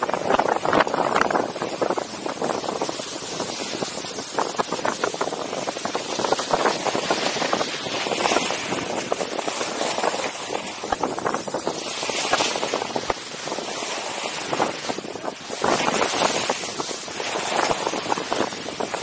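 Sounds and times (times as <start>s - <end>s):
skis scraping on snow: 0.0s - 19.0s.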